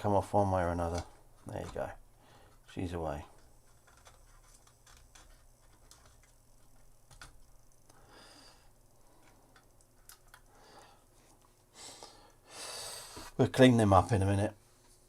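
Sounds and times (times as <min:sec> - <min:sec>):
soft hissing breaths: 0:01.0 - 0:13.6.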